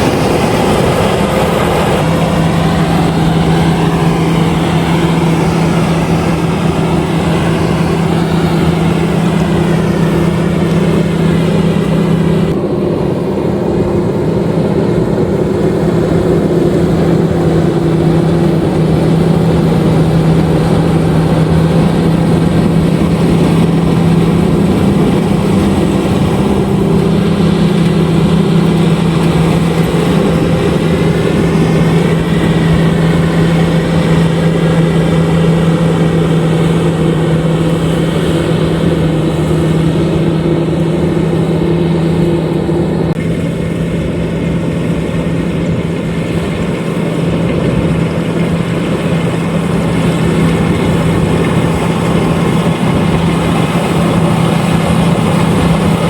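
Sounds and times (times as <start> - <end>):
combine harvester engine hum: 0.0 - 56.0.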